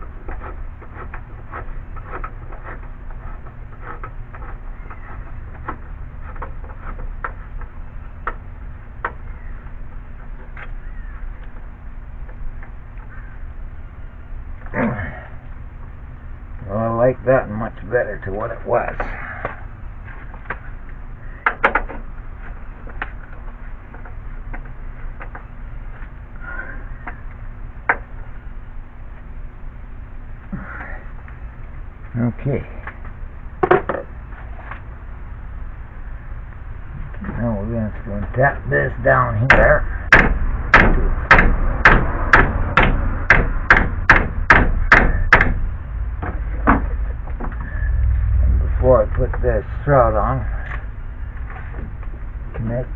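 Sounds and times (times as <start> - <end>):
low background hum: 0.0 - 52.9.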